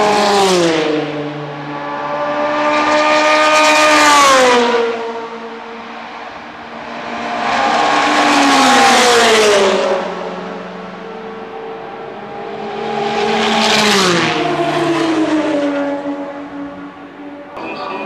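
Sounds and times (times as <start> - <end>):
race cars passing: 0.0 - 18.0.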